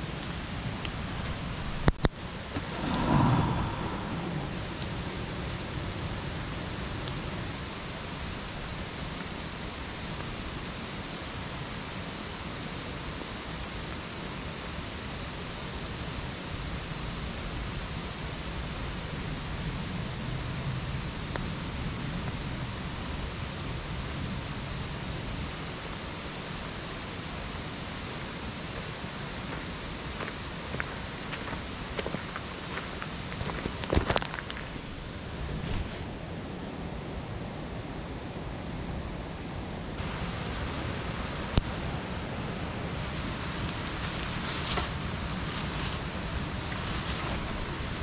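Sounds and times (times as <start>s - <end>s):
campfire crackling: 0.0s - 36.2s, 39.9s - 48.0s
steady rushing outdoor noise: 0.0s - 48.0s.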